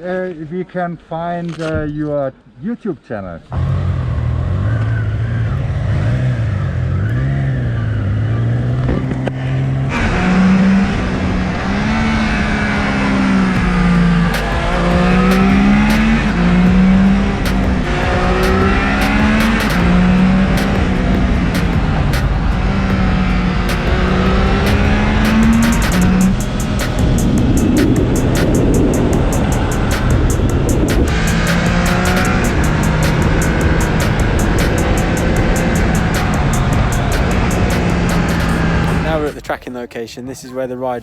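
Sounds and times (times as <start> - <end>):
motorcycle engines accelerating: 3.5 - 39.4.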